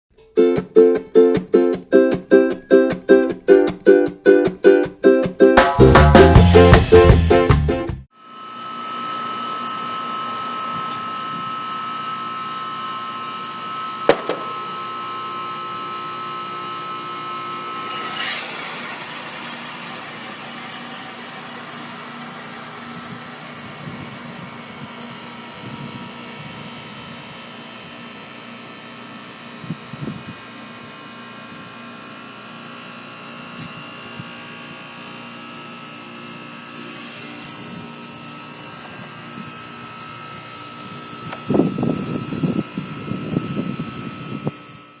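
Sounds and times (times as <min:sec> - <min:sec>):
heat pump steady tone: 0:08.2 - 0:45.0.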